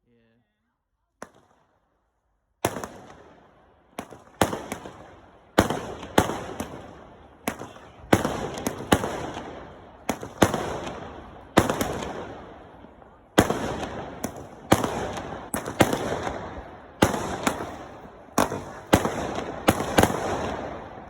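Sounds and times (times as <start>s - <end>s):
fireworks bangs: 2.6s - 21.0s.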